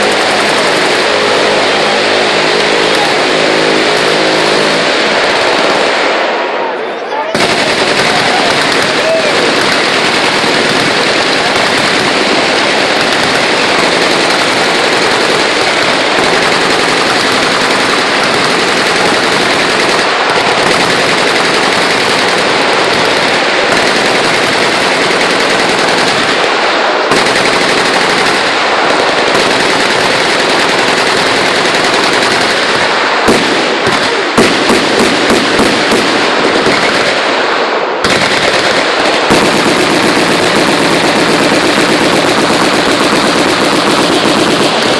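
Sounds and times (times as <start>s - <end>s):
machine guns firing: 0.0s - 44.9s.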